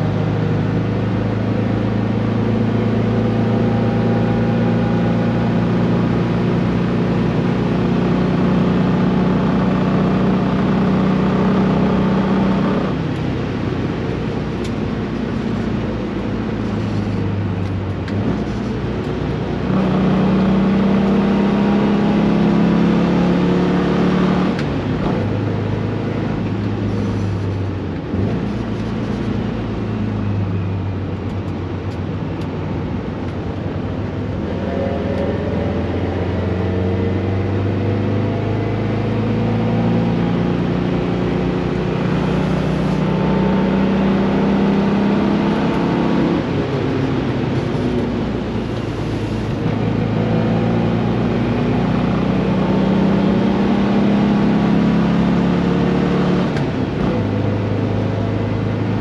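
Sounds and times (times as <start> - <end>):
car engine running hard: 0.0 - 59.0.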